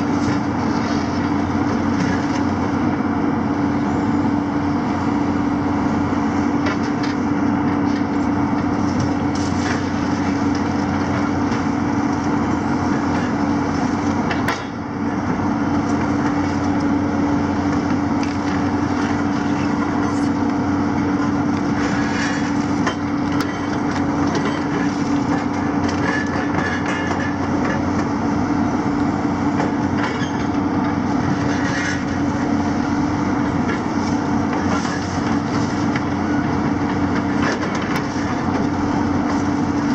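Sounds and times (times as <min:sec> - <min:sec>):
excavator engines droning: 0:00.0 - 0:39.9.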